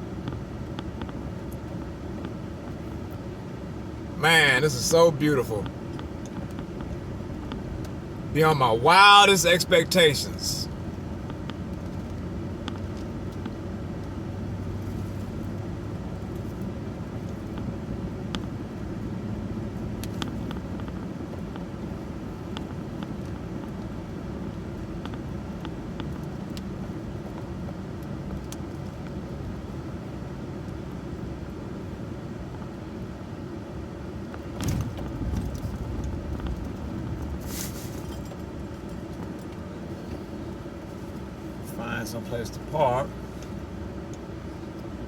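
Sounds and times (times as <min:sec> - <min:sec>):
truck engine and road noise: 0:00.0 - 0:45.0.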